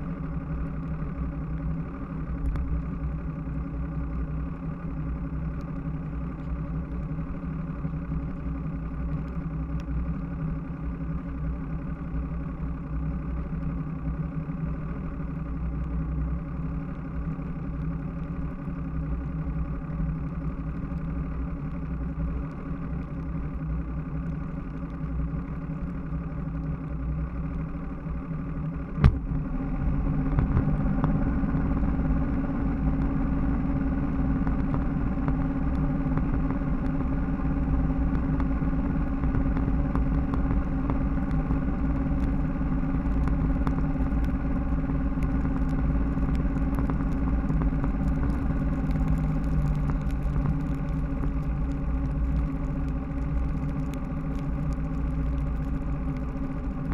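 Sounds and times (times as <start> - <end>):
outboard motor running: 0.0 - 56.9.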